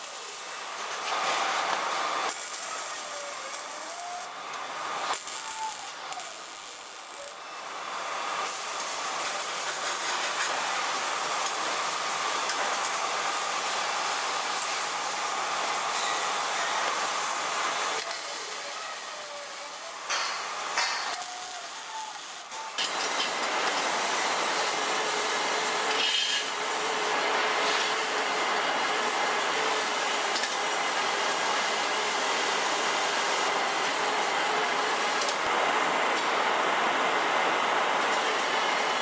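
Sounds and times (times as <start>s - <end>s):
fan hiss: 0.0s - 39.0s.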